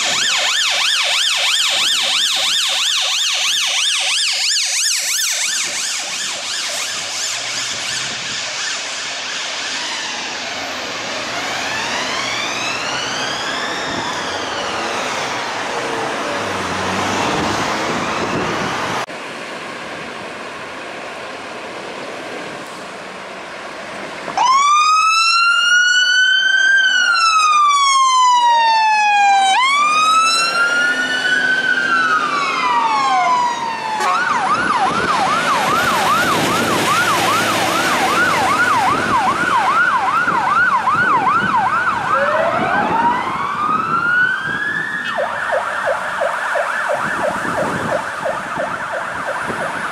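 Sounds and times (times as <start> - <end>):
fire engine siren: 0.0 - 19.1, 24.0 - 49.9
traffic noise: 0.0 - 49.9.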